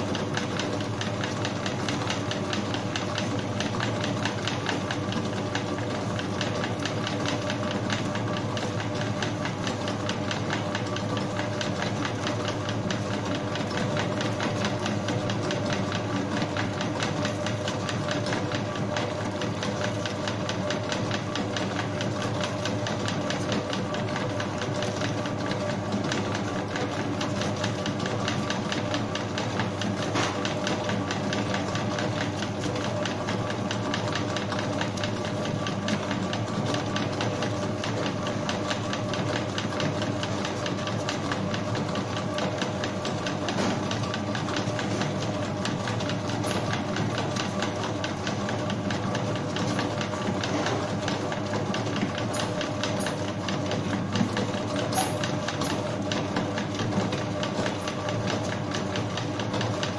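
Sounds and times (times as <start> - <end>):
dough mixer motor humming: 0.0 - 59.9.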